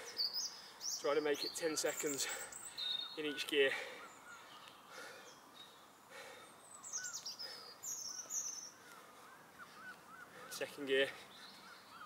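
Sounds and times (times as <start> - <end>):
bird chirps: 0.0 - 12.0
light background noise: 0.0 - 12.0.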